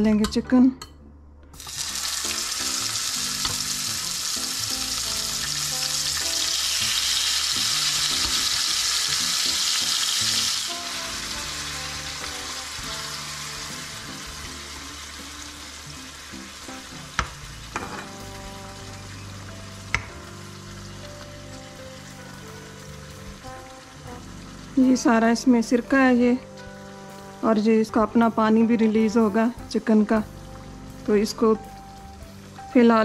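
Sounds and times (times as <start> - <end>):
chicken sizzling in hot oil: 1.6 - 27.9, 28.7 - 33.0.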